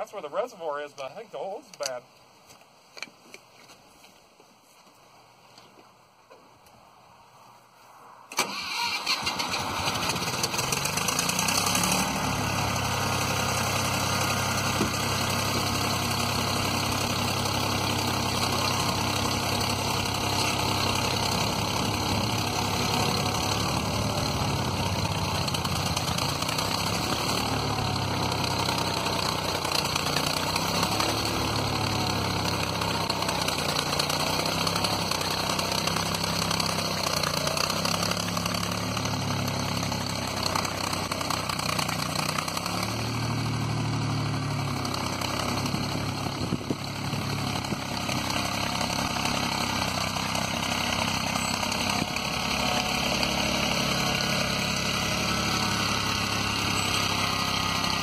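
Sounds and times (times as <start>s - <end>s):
tractor engine starting and idling: 8.3s - 58.0s.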